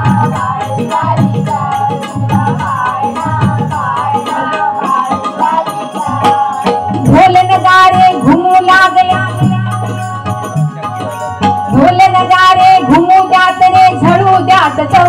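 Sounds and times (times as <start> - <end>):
harmonium melody: 0.0 - 15.0
jingling cymbals: 0.0 - 15.0
people singing: 0.0 - 15.0.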